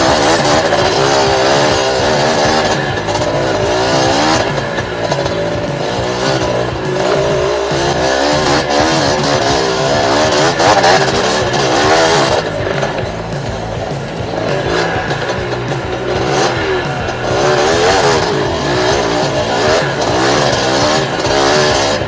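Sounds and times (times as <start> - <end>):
background music: 0.0 - 22.0
two-stroke engine revving: 0.0 - 22.0.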